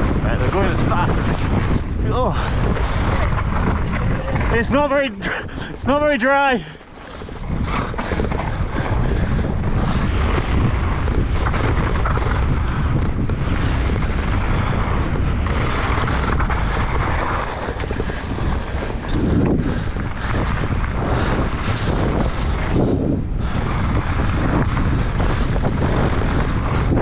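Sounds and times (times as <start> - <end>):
bike rattling and knocking: 0.0 - 6.3, 7.0 - 27.0
tyres on damp dirt trail: 0.0 - 27.0
wind rushing over microphone: 0.0 - 27.0.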